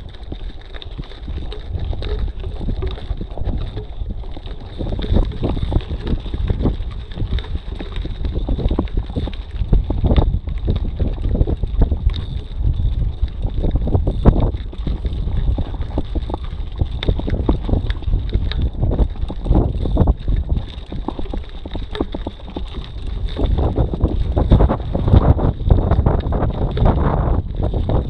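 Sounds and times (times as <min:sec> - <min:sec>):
bike tyres rolling over gravel: 0:00.0 - 0:28.0
wind buffeting microphone: 0:00.0 - 0:28.0.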